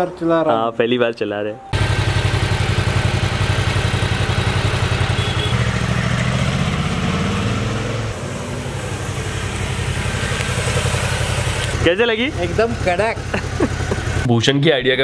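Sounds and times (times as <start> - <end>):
motorcycle engine running: 1.7 - 14.3.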